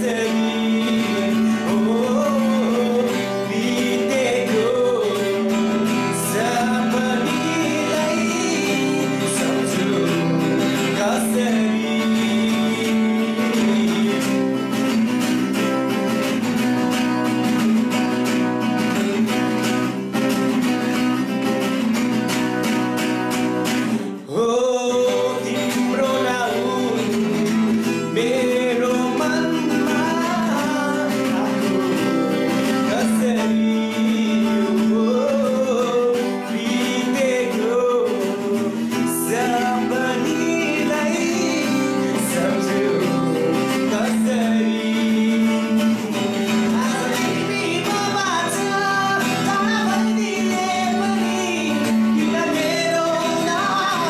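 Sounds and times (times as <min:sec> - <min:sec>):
man singing: 0:00.0 - 0:22.4, 0:23.0 - 0:54.0
acoustic guitar strumming: 0:00.0 - 0:54.0.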